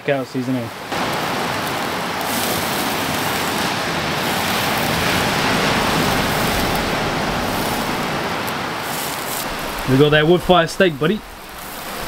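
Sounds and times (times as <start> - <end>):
ocean surf breaking: 0.0 - 12.0
steak sizzling over charcoal: 0.9 - 12.0.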